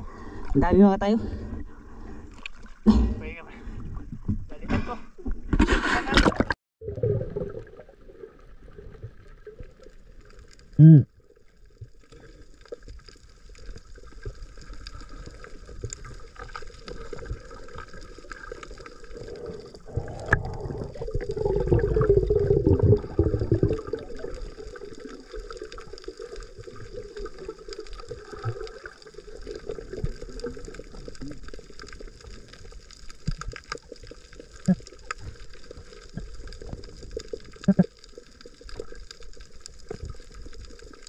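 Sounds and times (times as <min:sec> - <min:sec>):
water sloshing and gurgling: 0:00.0 - 0:41.0.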